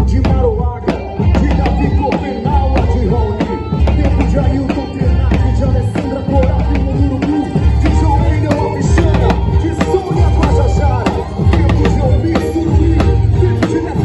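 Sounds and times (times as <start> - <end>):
band playing: 0.0 - 14.0
heavy pulsing bass and drums: 0.0 - 14.0
melodic line: 0.0 - 14.0
percussion hits: 0.0 - 14.0.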